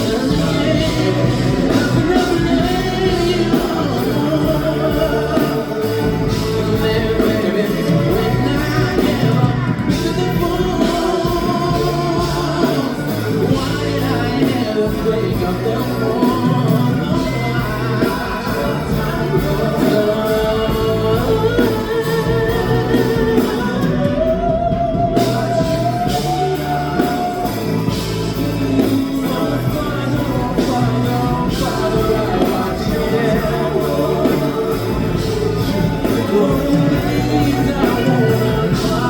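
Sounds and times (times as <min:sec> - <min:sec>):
live band playing: 0:00.0 - 0:39.0
person singing: 0:00.0 - 0:39.0.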